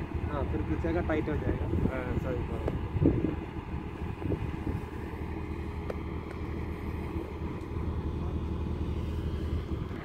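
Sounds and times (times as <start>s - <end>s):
heavy machine engine droning: 0.0s - 10.0s.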